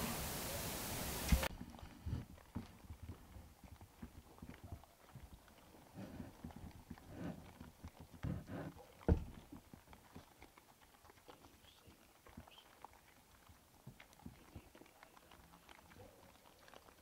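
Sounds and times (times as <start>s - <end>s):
hogs feeding and rooting: 0.0s - 17.0s.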